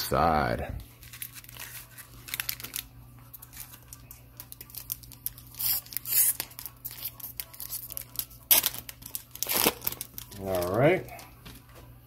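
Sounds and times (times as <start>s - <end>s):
foil wrapper crinkling: 0.8s - 11.6s.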